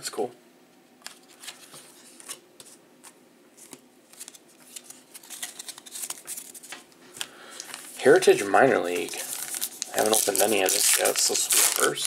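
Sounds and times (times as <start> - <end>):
trading cards shuffling: 1.0 - 8.2, 8.8 - 12.0.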